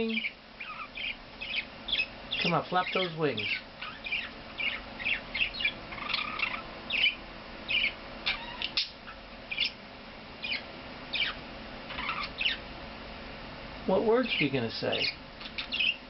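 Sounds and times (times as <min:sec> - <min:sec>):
budgerigar chirping: 0:00.0 - 0:09.8, 0:10.4 - 0:12.6, 0:14.2 - 0:16.0.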